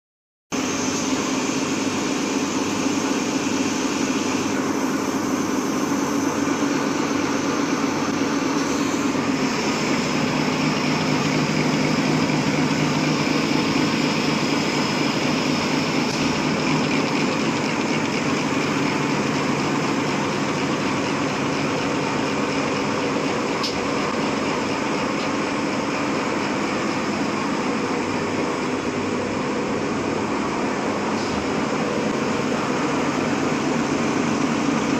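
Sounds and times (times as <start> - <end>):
paper making machine running: 0.6 - 34.9.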